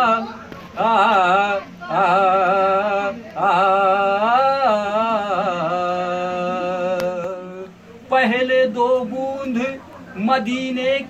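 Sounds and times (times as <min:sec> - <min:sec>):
man singing long ornamented notes: 0:00.0 - 0:11.0.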